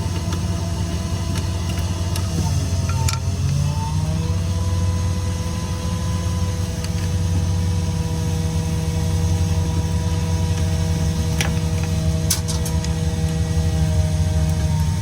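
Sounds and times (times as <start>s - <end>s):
machine droning hum: 0.0s - 15.0s.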